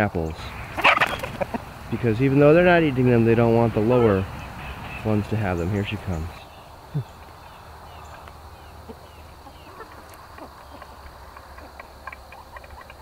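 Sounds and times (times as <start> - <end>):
hens pecking and scratching: 0.3 - 13.0
hens clucking softly: 0.4 - 13.0.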